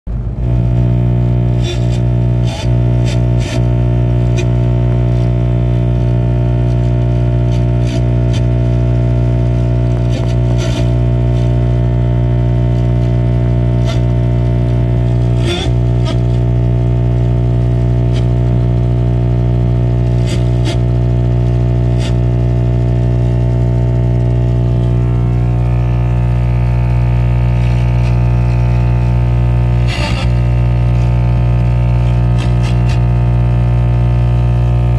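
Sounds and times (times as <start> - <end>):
distorted music drone: 0.1 - 34.9.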